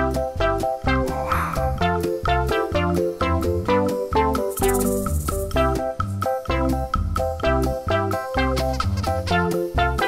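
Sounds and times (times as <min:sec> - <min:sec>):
bouncy background music: 0:00.0 - 0:10.0.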